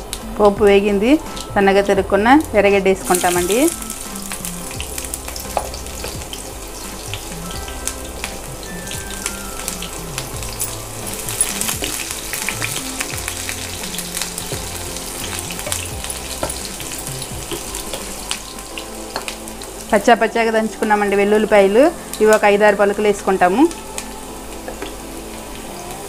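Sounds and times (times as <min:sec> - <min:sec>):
onion sizzling in hot oil: 0:00.0 - 0:26.0.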